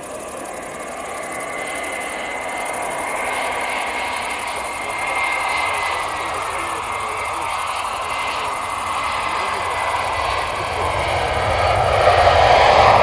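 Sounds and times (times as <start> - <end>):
high jet whine: 0.0 - 13.0
jet engines rushing: 0.0 - 13.0.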